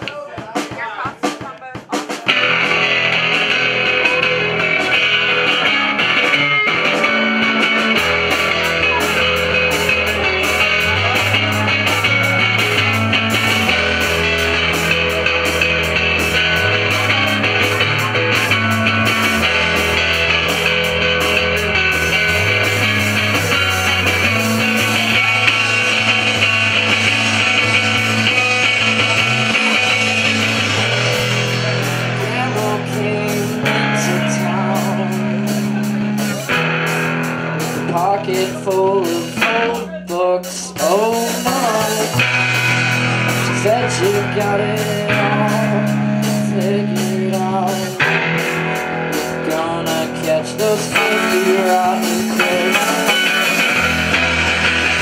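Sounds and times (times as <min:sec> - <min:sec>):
drum kit with cymbals: 0:00.0 - 0:55.0
electric guitar: 0:02.0 - 0:55.0
low bass notes: 0:02.3 - 0:55.0.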